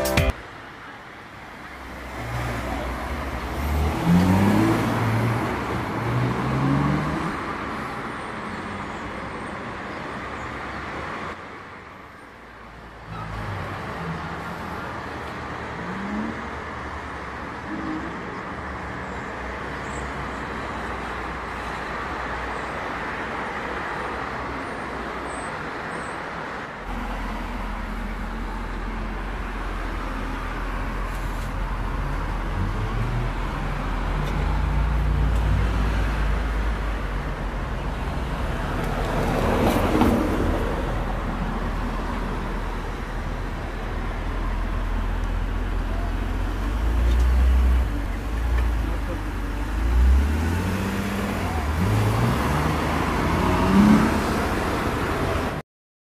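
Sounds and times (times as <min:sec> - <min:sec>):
street traffic: 0:00.0 - 0:55.6.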